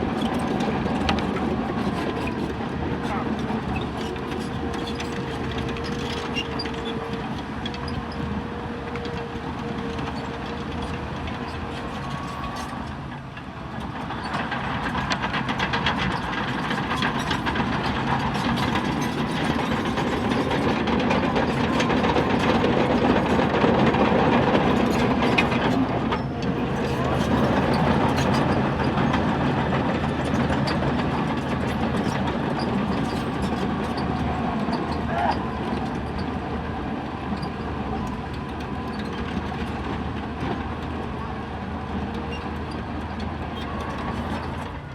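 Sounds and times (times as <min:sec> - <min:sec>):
bulldozer diesel engine: 0:00.0 - 0:44.9
steel tracks clanking: 0:08.9 - 0:44.9.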